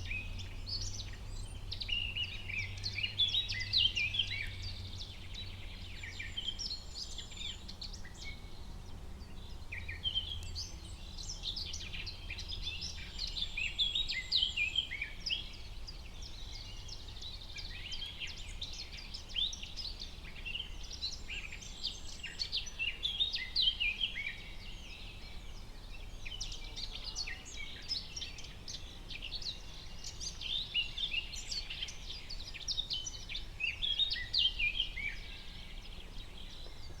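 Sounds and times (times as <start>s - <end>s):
songbirds chirping: 0.0s - 37.0s.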